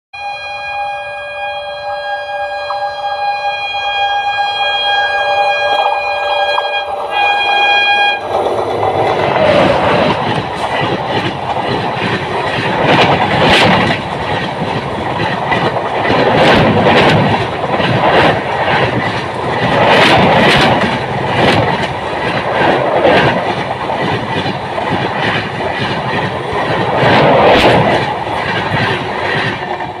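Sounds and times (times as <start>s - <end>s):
train rushing past: 2.4s - 30.0s.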